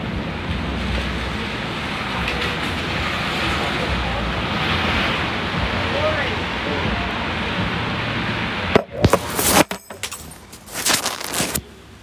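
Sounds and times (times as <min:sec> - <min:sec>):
traffic on wet streets: 0:00.0 - 0:12.0.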